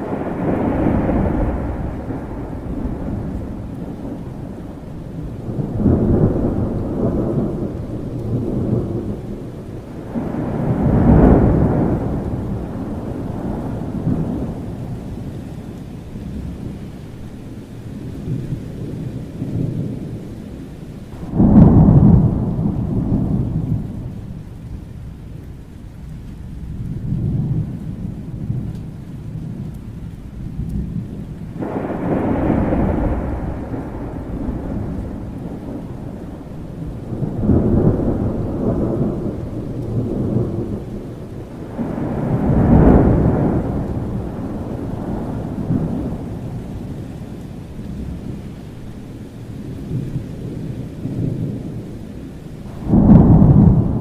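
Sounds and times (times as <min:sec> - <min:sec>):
steady rain: 0:00.0 - 0:54.0
thunder rumbling: 0:00.0 - 0:54.0.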